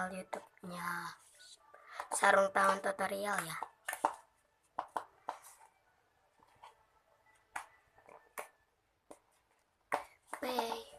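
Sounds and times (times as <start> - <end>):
faint clicks and taps: 1.7 - 10.9.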